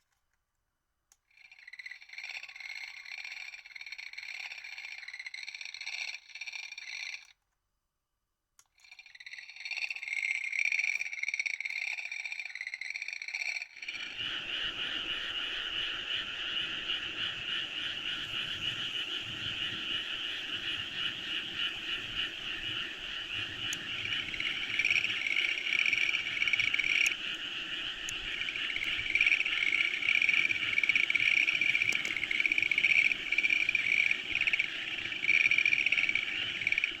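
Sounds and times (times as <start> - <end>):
chorus of frogs croaking: 1.3 - 7.2, 8.9 - 37.0.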